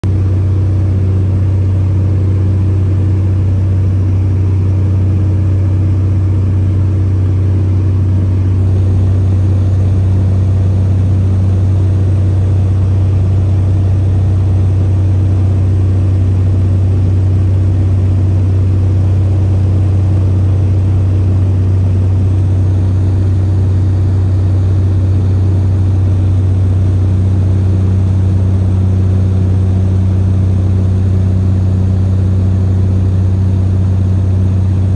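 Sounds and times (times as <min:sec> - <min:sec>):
small aircraft engine drone: 0:00.0 - 0:34.9.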